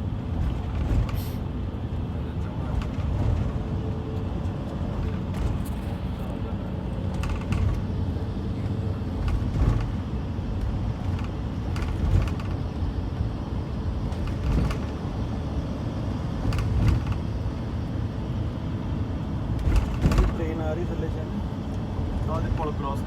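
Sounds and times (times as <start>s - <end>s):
car road rumble: 0.0s - 23.0s.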